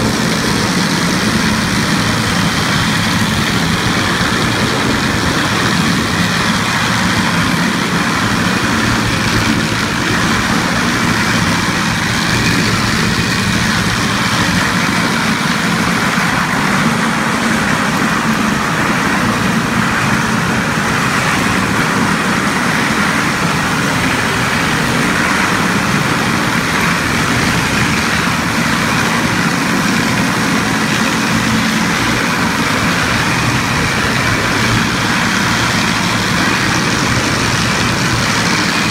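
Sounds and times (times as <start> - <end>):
floor grinder grinding: 0.0 - 38.9.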